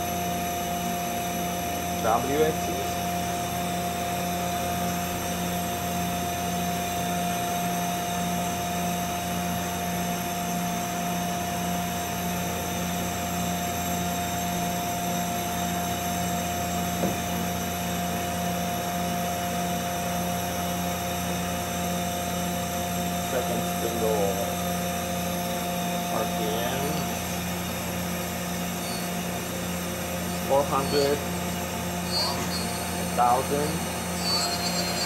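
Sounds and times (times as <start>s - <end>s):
lathe machine humming and whining: 0.0s - 35.0s.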